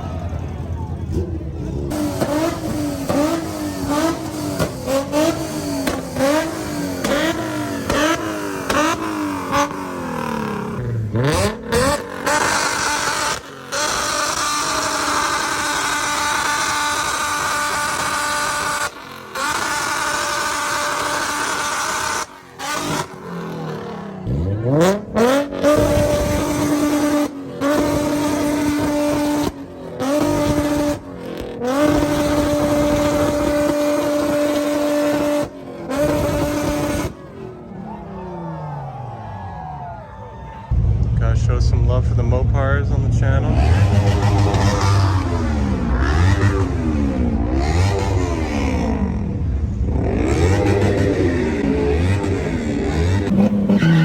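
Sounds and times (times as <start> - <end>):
car engine revving: 0.0 - 39.3, 40.7 - 54.0.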